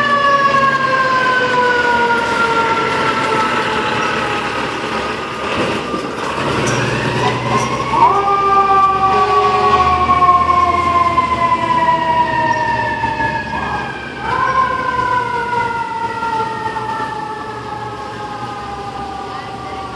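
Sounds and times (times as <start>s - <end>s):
mechanical siren wailing: 0.0s - 5.4s, 6.4s - 19.9s.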